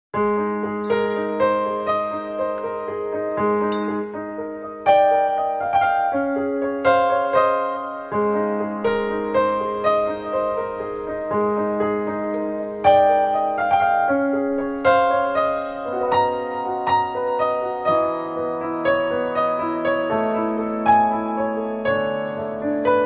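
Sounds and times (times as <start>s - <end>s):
gentle solo piano music: 0.2s - 23.0s.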